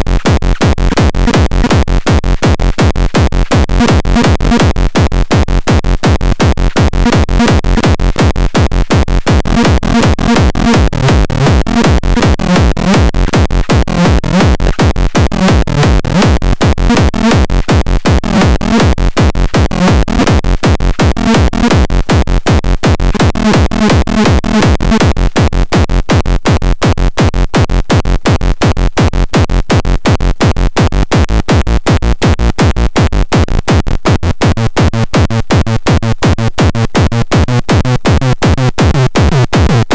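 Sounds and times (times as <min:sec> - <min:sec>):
electronic beat: 0:00.0 - 0:39.9
pulsing bass line: 0:00.0 - 0:39.9.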